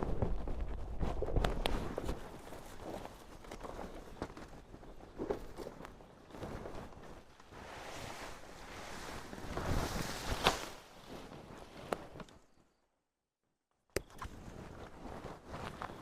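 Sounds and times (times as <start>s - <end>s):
rustling: 0.0s - 12.7s, 14.3s - 16.0s.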